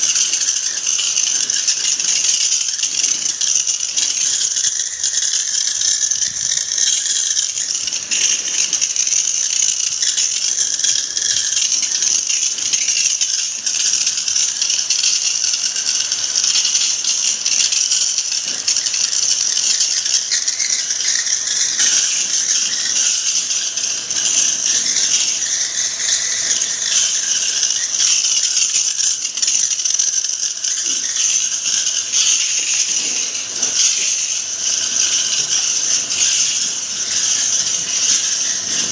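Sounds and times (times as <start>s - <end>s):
water jet hissing on metal: 0.0s - 38.9s.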